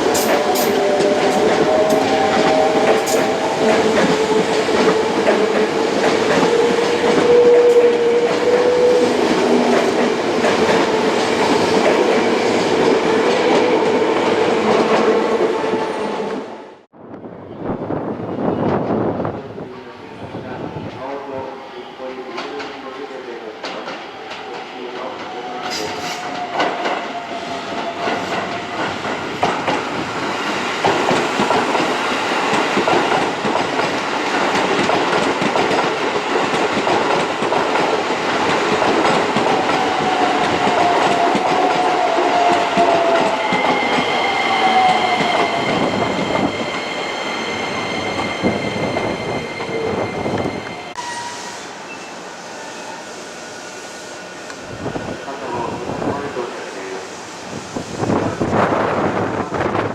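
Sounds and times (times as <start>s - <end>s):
electric train passing: 0.0s - 16.8s, 17.6s - 59.9s
train whining and squealing: 0.0s - 16.8s, 17.5s - 59.9s.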